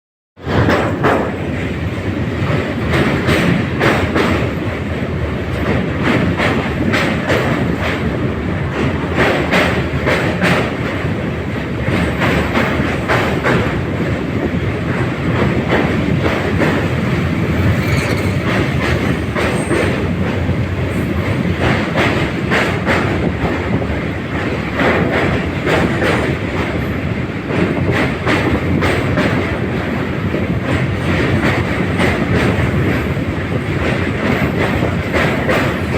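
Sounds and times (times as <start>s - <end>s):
rail joints clattering: 0.4s - 35.9s
train wheels rumbling on rails: 0.4s - 35.9s.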